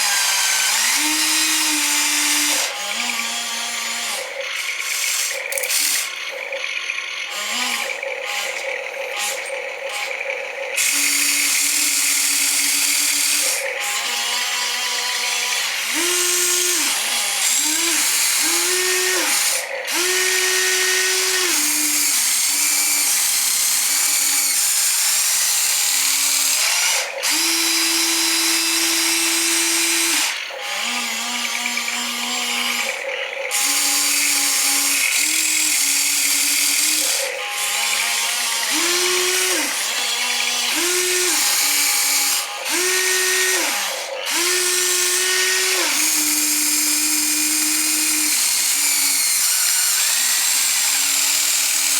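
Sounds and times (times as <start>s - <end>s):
small electric motors whining: 0.0s - 51.9s.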